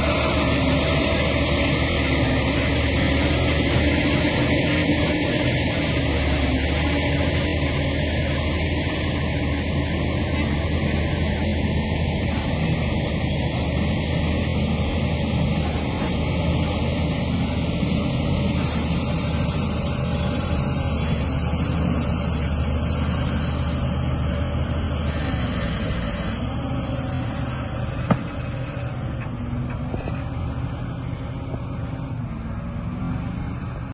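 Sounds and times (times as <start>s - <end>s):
tractor engine running under load: 0.0s - 33.9s.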